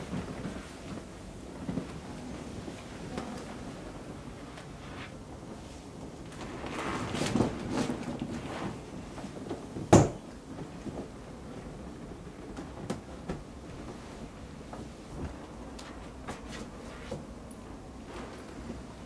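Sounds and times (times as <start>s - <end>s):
inflatable vinyl toy rustling and creaking: 0.0s - 19.0s.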